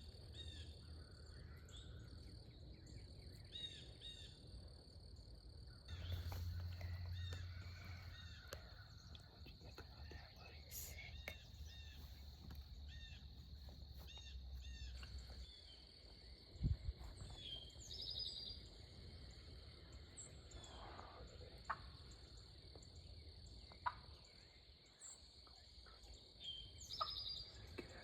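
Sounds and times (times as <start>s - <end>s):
bird chirping: 0.0s - 4.5s, 5.1s - 28.0s.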